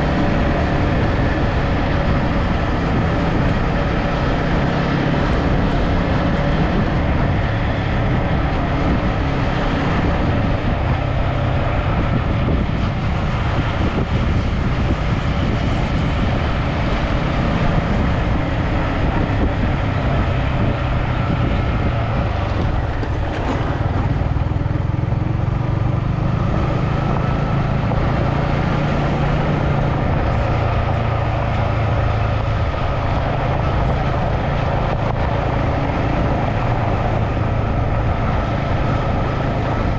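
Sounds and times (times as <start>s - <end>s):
road and wind noise: 0.0s - 39.9s
vehicle engine humming: 0.0s - 39.9s.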